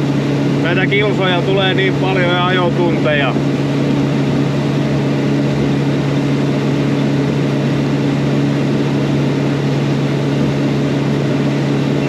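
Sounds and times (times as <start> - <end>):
outboard motor running: 0.0 - 12.0
water rushing: 0.0 - 12.0
wind: 0.0 - 12.0.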